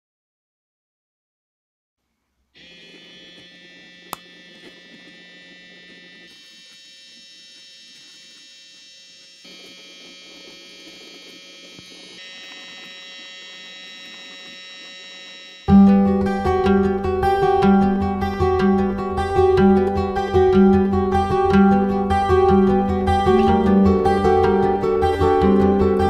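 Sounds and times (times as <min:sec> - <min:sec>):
gearmotor whining: 0:02.6 - 0:26.0.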